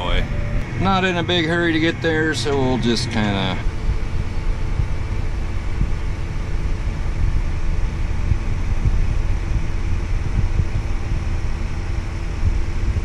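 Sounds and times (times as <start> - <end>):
faint steady hum: 0.0 - 13.0
tractor engine rumbling: 0.0 - 13.0.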